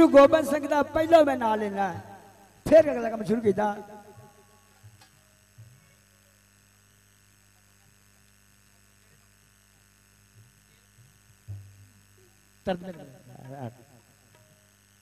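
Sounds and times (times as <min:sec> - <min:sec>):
low electrical mains hum: 0:00.0 - 0:15.0.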